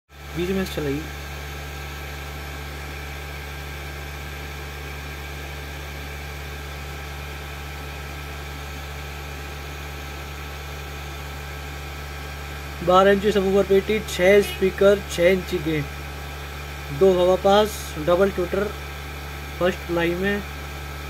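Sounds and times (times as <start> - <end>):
steady low hum: 0.2 - 21.0.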